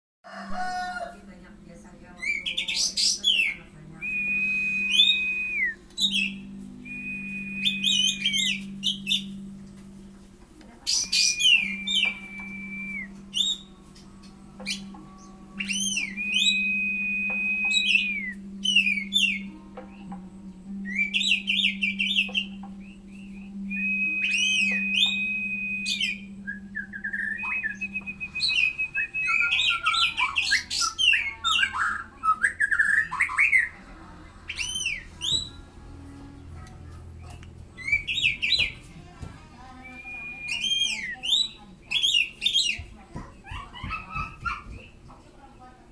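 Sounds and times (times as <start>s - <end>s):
songbird chirping and whistling: 2.0s - 10.0s, 10.6s - 33.8s, 34.5s - 45.1s.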